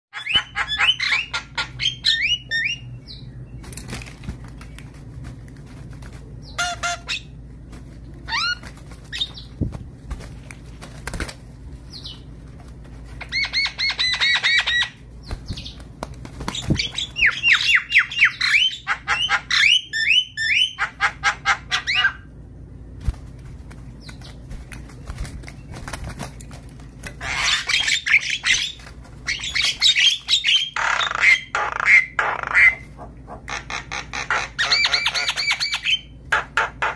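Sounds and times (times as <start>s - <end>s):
birds chattering and squawking: 0.1s - 23.0s, 23.8s - 36.9s.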